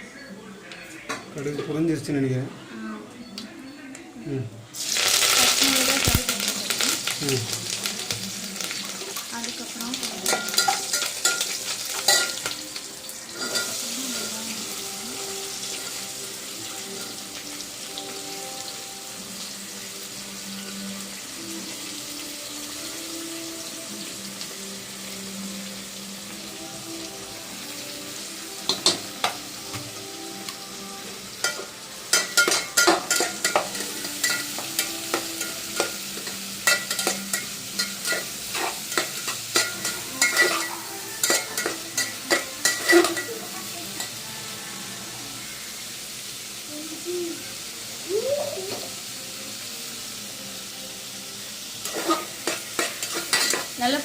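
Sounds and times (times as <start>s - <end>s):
food sizzling in hot oil: 4.7s - 54.0s.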